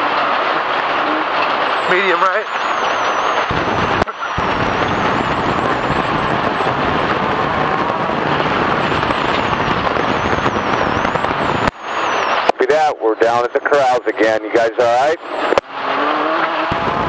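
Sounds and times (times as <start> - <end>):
race car engine and road noise: 0.0 - 17.0.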